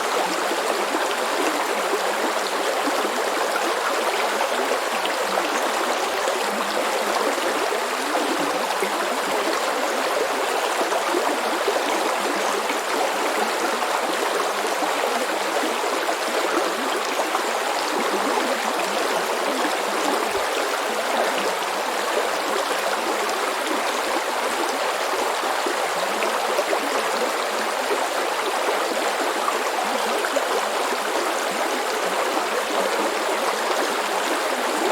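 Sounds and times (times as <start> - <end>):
brook babbling over stones: 0.0 - 34.9.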